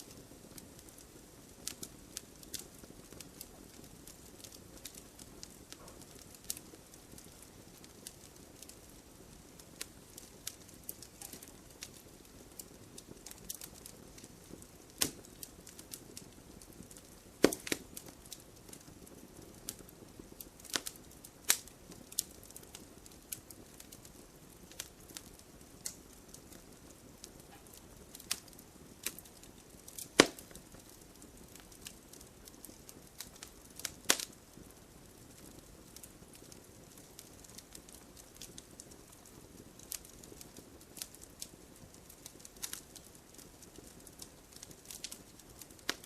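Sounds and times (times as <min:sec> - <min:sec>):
faint steady hiss: 0:00.0 - 0:46.0
firewood crackling and popping: 0:00.0 - 0:46.0.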